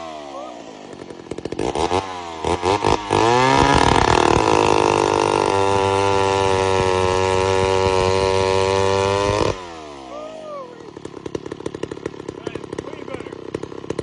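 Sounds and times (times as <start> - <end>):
chainsaw revving and idling: 0.0 - 14.0.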